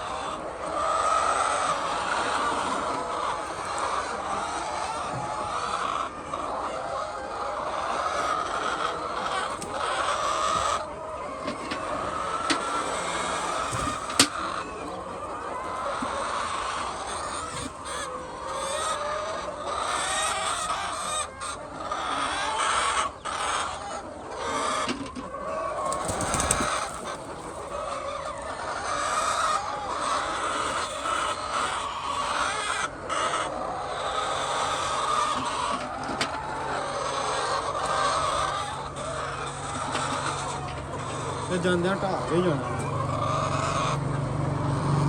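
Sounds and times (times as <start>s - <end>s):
hens clucking: 0.0s - 45.0s.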